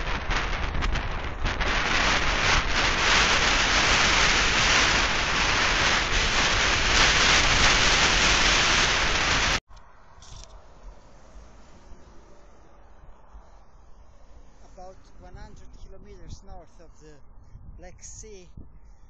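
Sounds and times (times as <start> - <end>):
wind on microphone: 0.0 - 9.6, 12.9 - 19.0.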